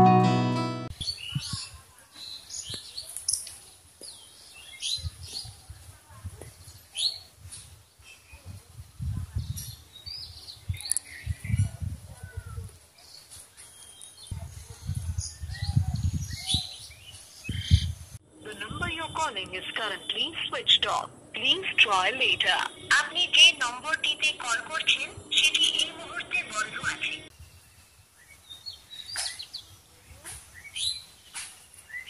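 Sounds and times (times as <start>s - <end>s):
wild birds chirping: 1.0s - 5.7s, 9.4s - 32.0s.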